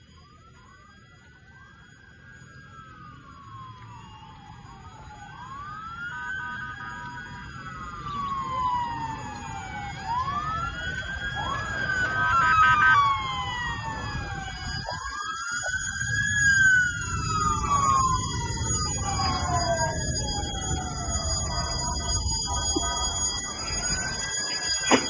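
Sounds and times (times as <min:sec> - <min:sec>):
emergency vehicle sirens wailing: 0:00.0 - 0:25.0
two-note hi-lo siren: 0:00.0 - 0:25.0.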